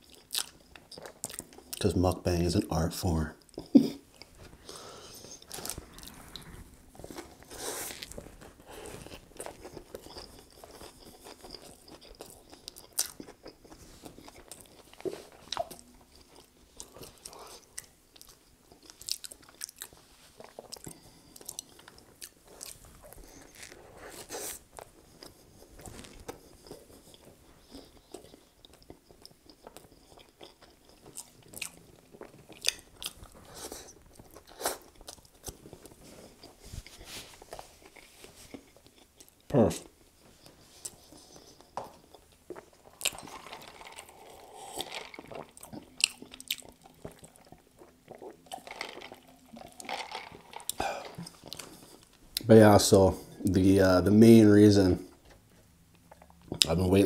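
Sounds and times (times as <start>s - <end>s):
person chewing food: 0.0s - 1.9s, 3.4s - 52.5s, 55.1s - 56.8s.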